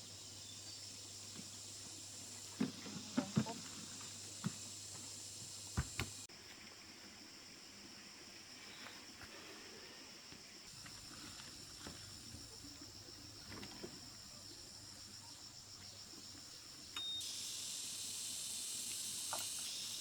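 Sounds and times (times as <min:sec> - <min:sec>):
steady hiss: 0:00.0 - 0:13.5, 0:14.1 - 0:20.0
insects trilling: 0:00.0 - 0:20.0.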